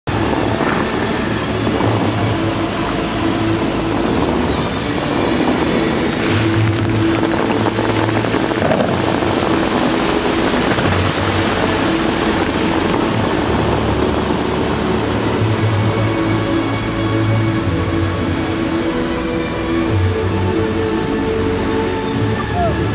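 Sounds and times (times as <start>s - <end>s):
fountain water spraying: 0.1s - 22.9s
music with long low notes: 0.1s - 22.9s.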